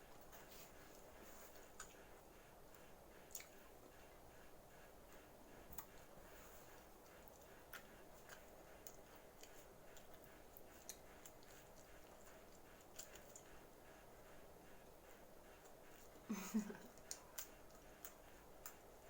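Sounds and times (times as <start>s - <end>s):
faint eating clicks: 0.0s - 19.0s.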